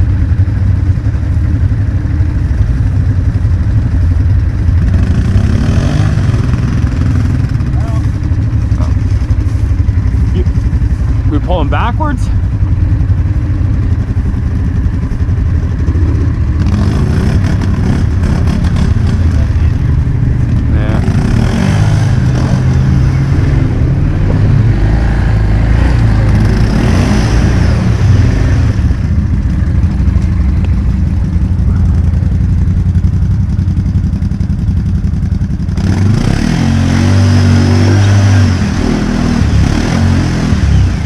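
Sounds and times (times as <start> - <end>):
atv engine revving: 0.0 - 41.0.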